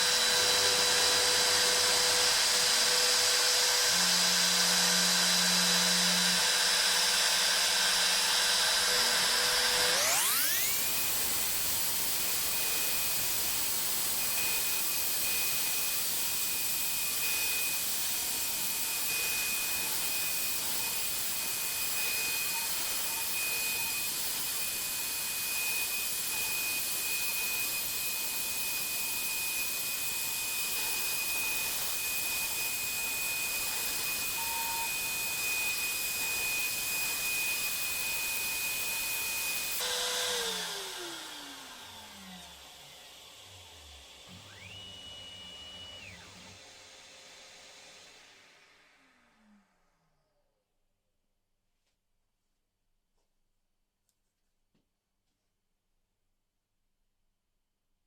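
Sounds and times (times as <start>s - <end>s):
router spindle whining and hissing: 0.0s - 50.6s.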